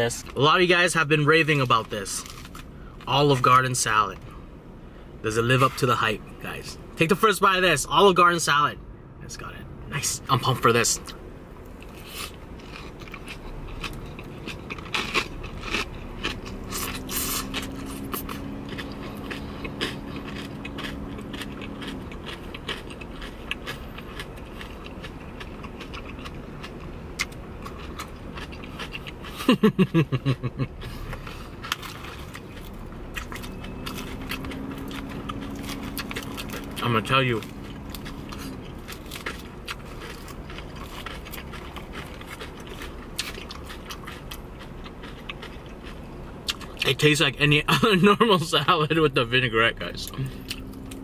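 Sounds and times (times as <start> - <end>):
low steady hum: 0.0 - 51.0
crunchy chewing of salad: 1.2 - 4.4, 10.4 - 47.1, 50.0 - 51.0.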